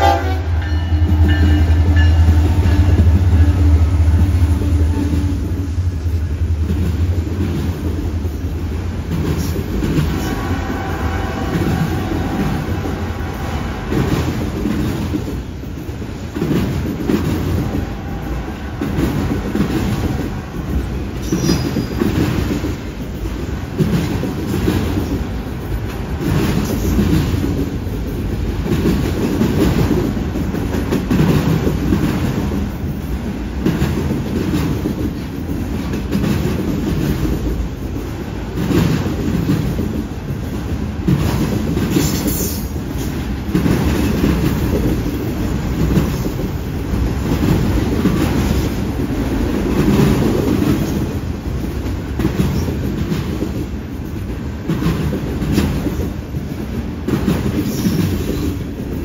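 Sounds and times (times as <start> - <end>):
diesel locomotive drone: 0.0 - 59.0
train wheels rumbling on rails: 0.0 - 59.0.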